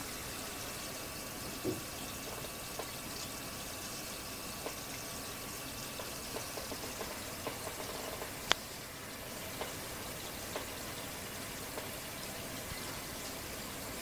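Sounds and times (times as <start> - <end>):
moving water hiss: 0.0 - 14.0.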